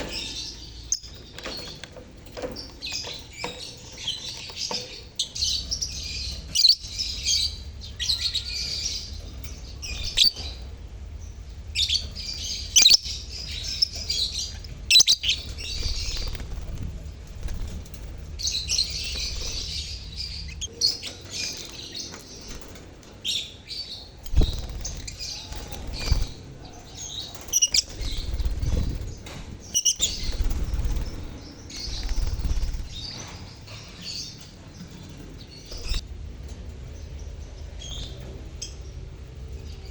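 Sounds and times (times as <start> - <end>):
birds chirping shrilly: 0.0 - 36.1.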